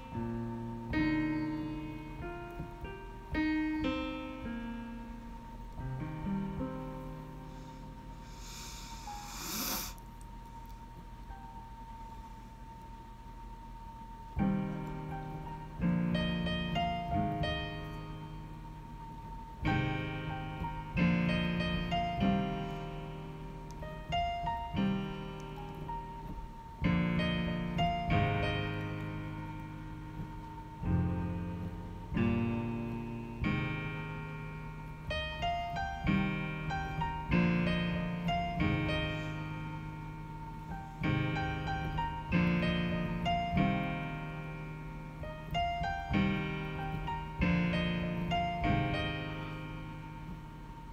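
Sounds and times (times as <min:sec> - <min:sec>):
piano playing slow chords: 0:00.0 - 0:50.9.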